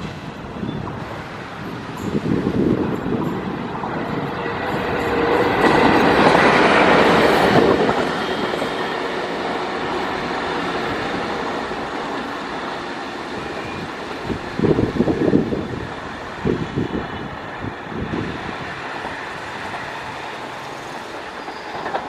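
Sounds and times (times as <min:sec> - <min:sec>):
locomotives passing on rails: 0:00.0 - 0:22.0.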